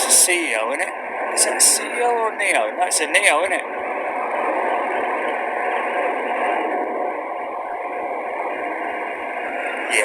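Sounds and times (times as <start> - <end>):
faint steady tone: 0.0 - 10.0
jet engines running: 0.0 - 10.0.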